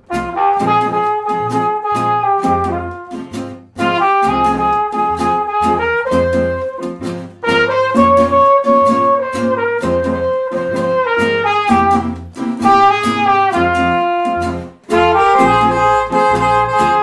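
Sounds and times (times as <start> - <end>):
acoustic guitar chords: 0.0 - 17.0
brass horn melody: 0.0 - 17.0
plucked double bass: 0.0 - 17.0.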